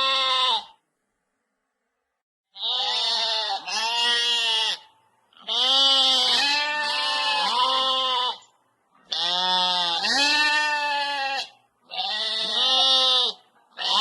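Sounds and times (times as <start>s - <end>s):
animal bleating: 0.0s - 0.8s, 2.5s - 14.0s.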